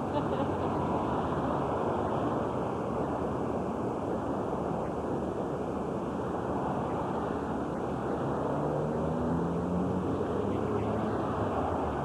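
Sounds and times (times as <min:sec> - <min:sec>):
traffic noise: 0:00.0 - 0:12.0
wind: 0:00.0 - 0:12.0.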